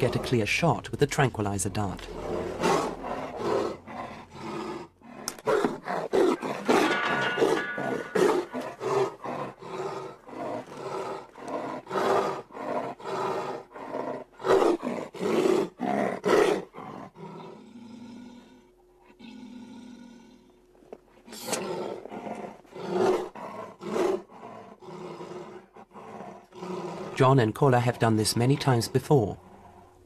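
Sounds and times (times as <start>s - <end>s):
tiger cub snarling and growling: 0.0s - 30.0s.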